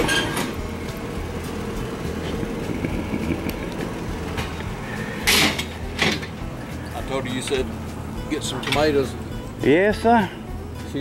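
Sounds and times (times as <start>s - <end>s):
vehicle engine idling: 0.5s - 11.0s.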